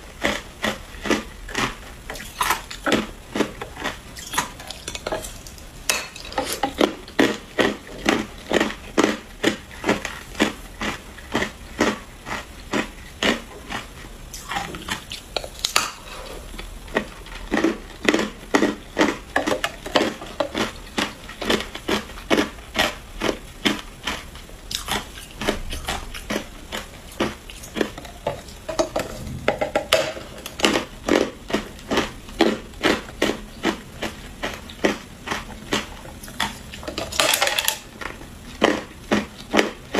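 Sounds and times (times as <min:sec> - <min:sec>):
ice crunching as chewed: 0:00.0 - 0:39.9.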